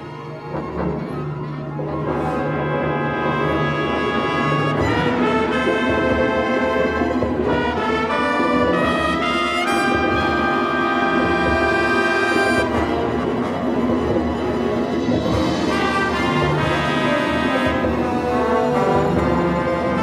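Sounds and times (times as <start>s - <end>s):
orchestra playing held chords: 1.6s - 20.0s.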